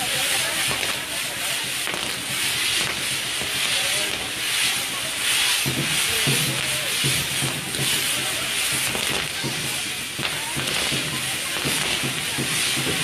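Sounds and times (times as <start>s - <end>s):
fireworks sparks hissing: 0.0s - 13.0s.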